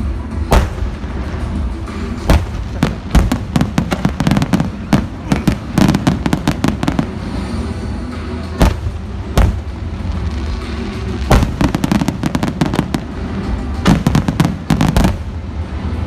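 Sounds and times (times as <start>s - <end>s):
fireworks crackles: 0.4s - 16.0s
fireworks bangs: 0.5s - 16.0s.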